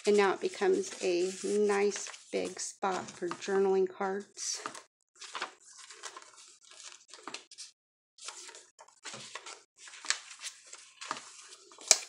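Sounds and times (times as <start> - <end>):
paper pages rustling: 0.0 - 3.7, 4.3 - 12.0.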